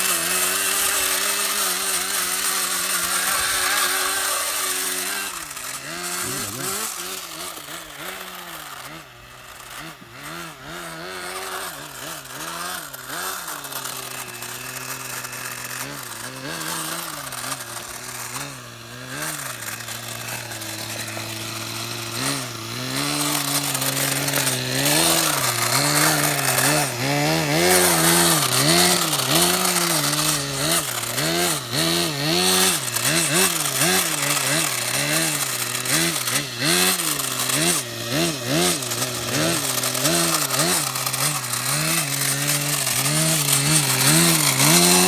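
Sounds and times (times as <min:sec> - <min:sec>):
small model car engine revving: 0:00.0 - 0:45.0.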